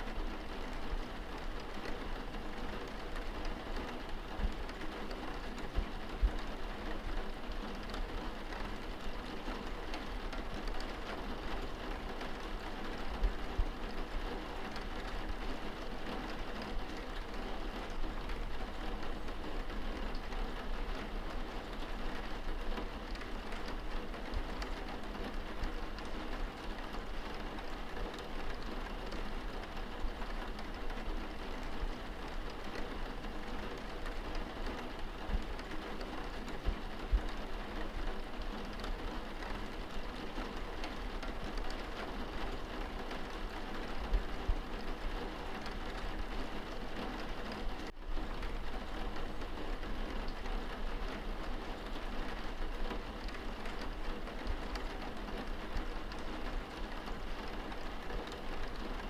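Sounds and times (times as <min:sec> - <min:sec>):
rain pattering on window glass: 0:00.0 - 0:59.0.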